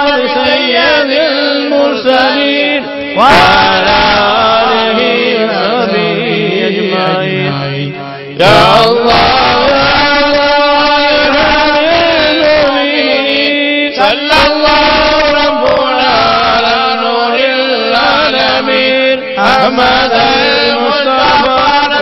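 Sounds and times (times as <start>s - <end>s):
men chanting through microphones: 0.0s - 22.0s.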